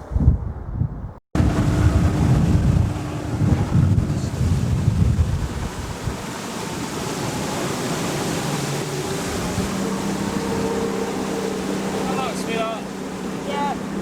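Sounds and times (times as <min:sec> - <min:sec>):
wind: 0:00.0 - 0:14.0
boat engine: 0:01.4 - 0:14.0
rushing water: 0:01.4 - 0:14.0.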